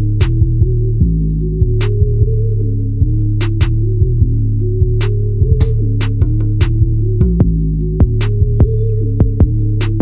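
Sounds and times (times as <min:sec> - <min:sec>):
beat with heavy bass line: 0:00.0 - 0:10.0.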